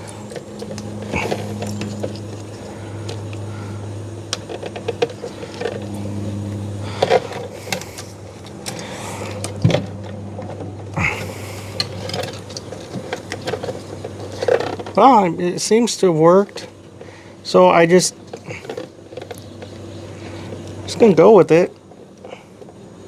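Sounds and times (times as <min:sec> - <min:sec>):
steady low hum: 0:00.0 - 0:23.0
plastic clicks and rattles: 0:00.1 - 0:15.8, 0:16.4 - 0:17.1, 0:18.1 - 0:22.8.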